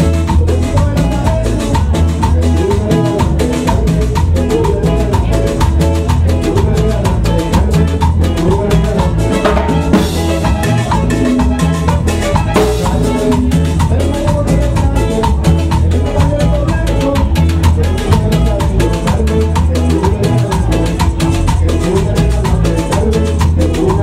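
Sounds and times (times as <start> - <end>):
latin dance music: 0.0 - 24.0.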